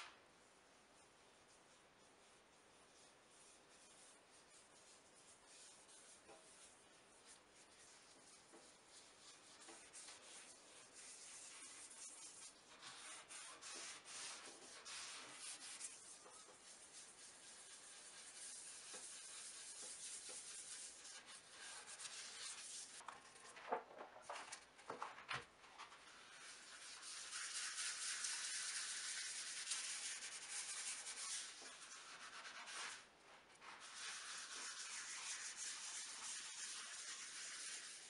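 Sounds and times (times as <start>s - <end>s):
gloved hand rubbing plastic sheet: 0.7s - 23.6s, 25.8s - 38.0s.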